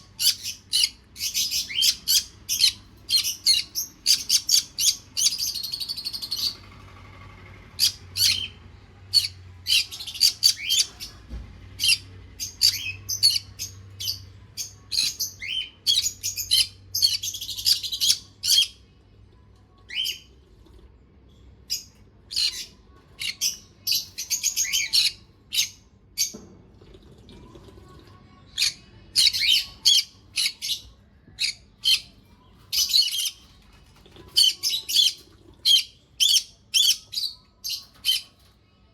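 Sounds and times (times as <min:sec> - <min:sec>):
parrots chirping and squawking: 0:00.0 - 0:18.9, 0:21.7 - 0:26.4, 0:28.5 - 0:38.5.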